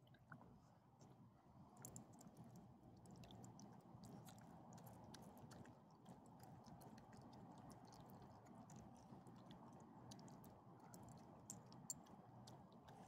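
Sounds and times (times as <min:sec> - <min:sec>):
dogs chewing and licking: 0:01.8 - 0:13.0.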